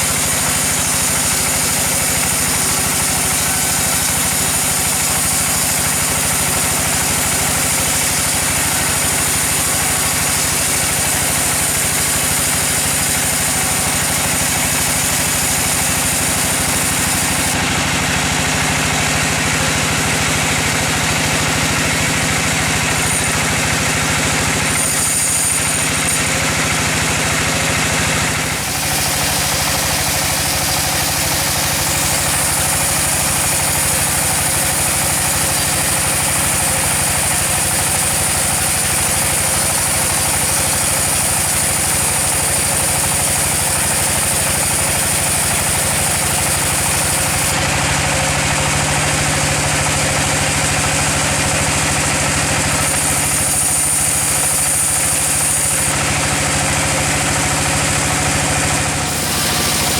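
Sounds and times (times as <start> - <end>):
sawmill machinery engine drone: 0.0 - 59.9.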